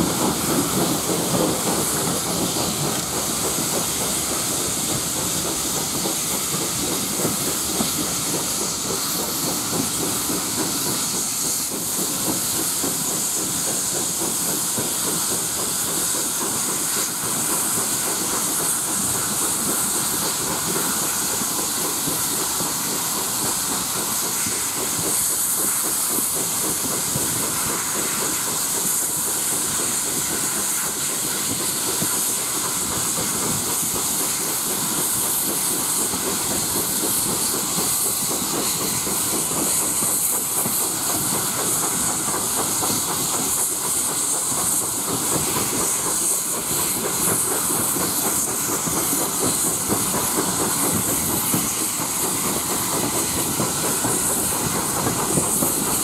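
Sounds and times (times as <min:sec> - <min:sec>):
hissing rush of steam and air: 0:00.0 - 0:56.0
train wheels on rails: 0:00.0 - 0:56.0.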